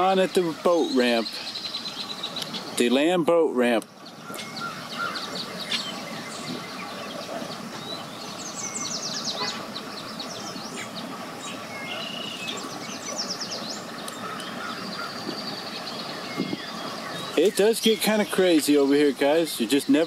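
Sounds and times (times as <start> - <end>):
birds chirping: 0.0 - 20.0
outdoor background rumble: 0.0 - 20.0.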